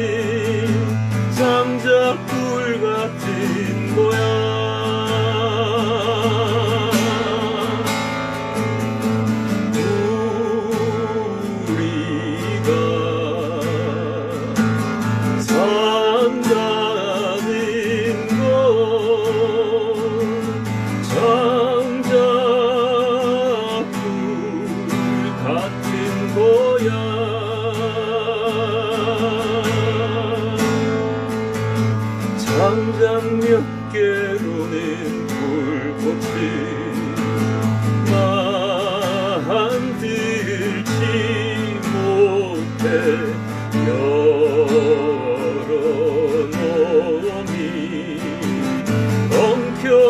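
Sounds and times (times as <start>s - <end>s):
acoustic guitar strumming: 0.0s - 50.0s.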